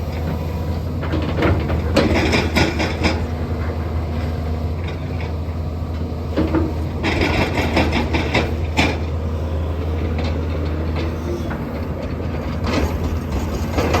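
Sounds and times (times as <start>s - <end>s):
asphalt millings rattling and scraping: 0.0s - 14.0s
excavator diesel engine running: 0.0s - 14.0s.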